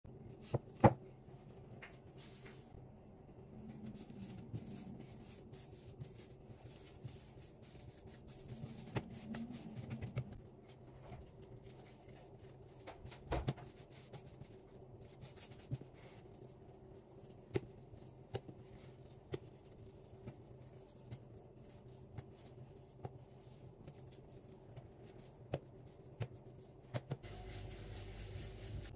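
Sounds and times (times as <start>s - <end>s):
faint steady hum: 0.1s - 28.9s
hands kneading dough: 0.2s - 2.8s, 3.6s - 28.9s.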